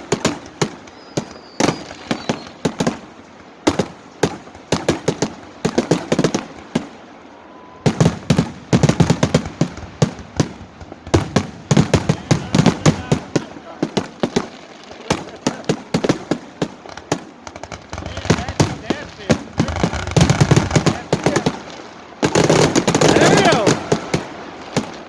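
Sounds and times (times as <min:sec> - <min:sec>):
firecrackers banging: 0:00.0 - 0:25.0.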